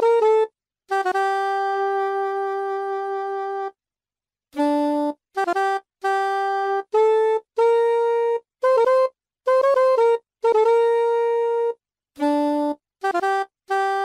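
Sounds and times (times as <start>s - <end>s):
alto saxophone folk melody: 0.0s - 3.8s, 4.5s - 14.0s.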